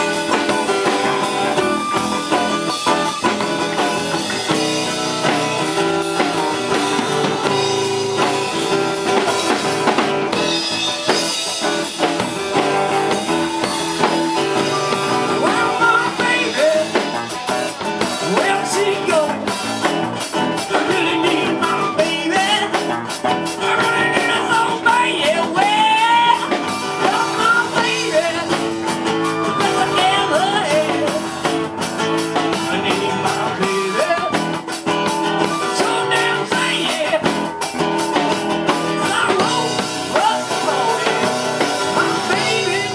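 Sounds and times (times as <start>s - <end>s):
live blues-rock band playing: 0.0s - 42.9s
sliding lead guitar melody: 0.0s - 42.9s.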